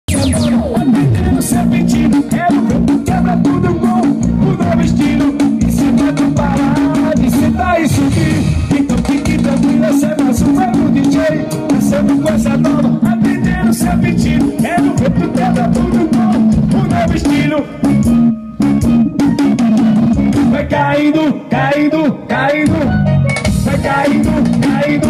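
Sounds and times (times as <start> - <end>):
upbeat song with drums and bass: 0.0 - 25.0.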